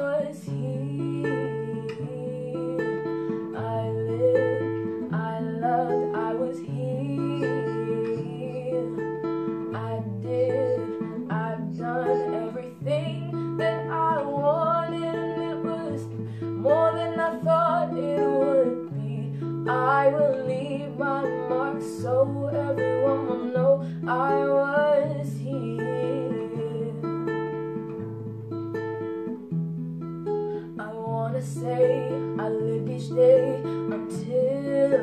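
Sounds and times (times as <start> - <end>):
girl singing: 0.0 - 27.8, 30.7 - 35.0
classical guitar picking chords: 0.0 - 35.0.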